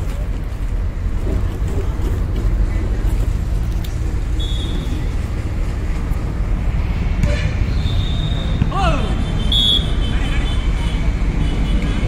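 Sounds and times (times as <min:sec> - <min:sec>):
low outdoor rumble: 0:00.0 - 0:11.5.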